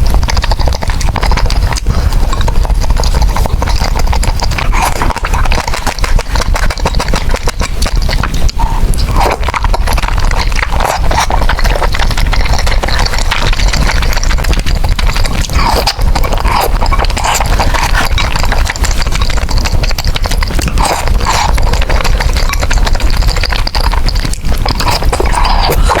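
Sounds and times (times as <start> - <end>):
noodle slurping: 0.0 - 26.0
wet chewing and smacking: 0.0 - 26.0.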